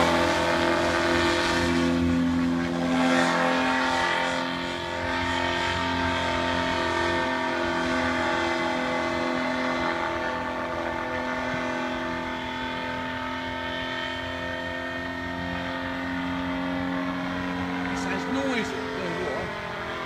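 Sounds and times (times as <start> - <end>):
paramotor engine and propeller: 0.0 - 20.0.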